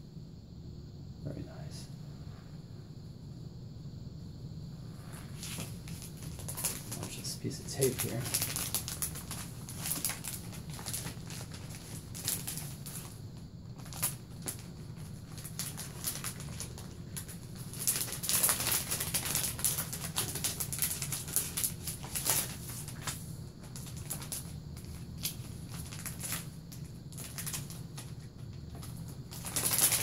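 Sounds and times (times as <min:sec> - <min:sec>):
steady low hum: 0:00.0 - 0:30.0
plastic sleeves crinkling: 0:05.0 - 0:30.0.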